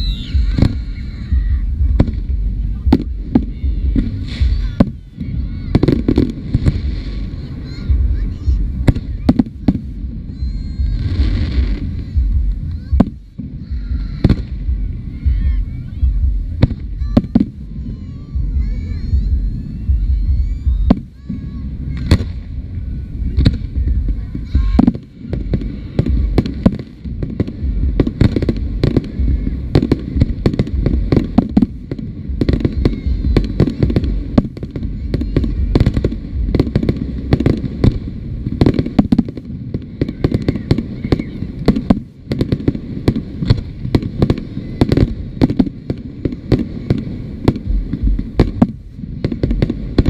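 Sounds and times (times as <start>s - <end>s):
fireworks bangs: 0.0s - 50.0s
low rumble: 0.0s - 50.0s.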